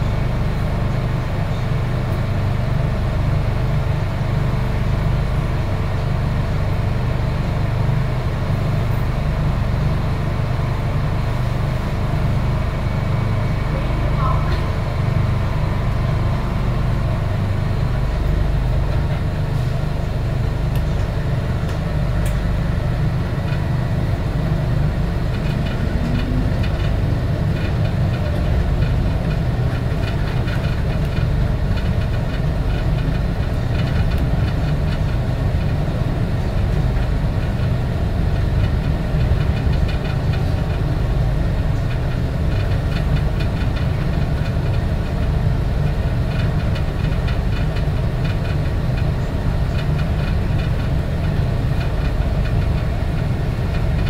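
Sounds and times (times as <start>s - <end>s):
light rail car rumbling: 0.0s - 54.0s.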